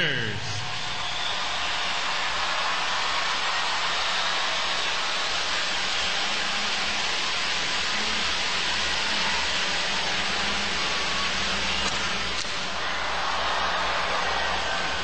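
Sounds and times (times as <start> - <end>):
crowd cheering and applauding: 0.0 - 15.0.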